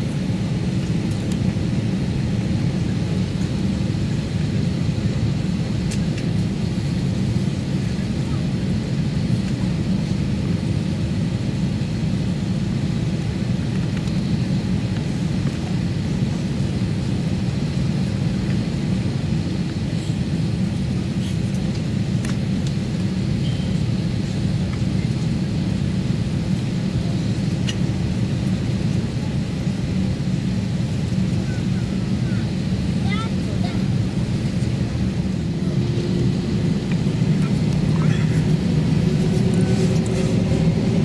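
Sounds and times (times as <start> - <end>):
aircraft engine rumble and hum: 0.0 - 41.0.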